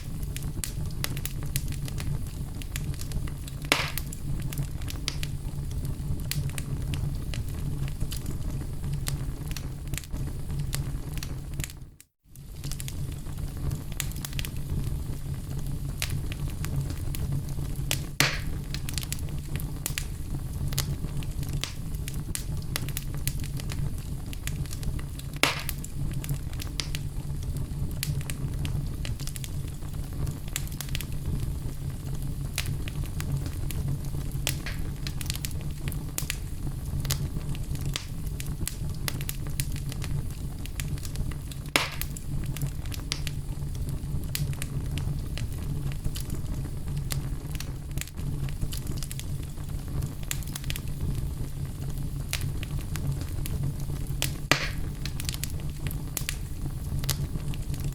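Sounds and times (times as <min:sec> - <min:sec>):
fire crackling: 0:00.0 - 0:57.9
fire low rumble: 0:00.0 - 0:57.9
loud fire pops: 0:00.0 - 0:57.9.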